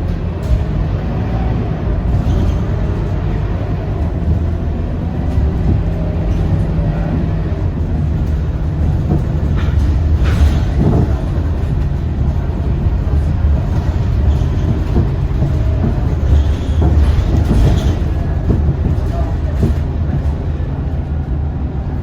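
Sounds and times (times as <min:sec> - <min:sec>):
bus diesel engine rumble: 0:00.0 - 0:22.0
road noise: 0:00.0 - 0:22.0.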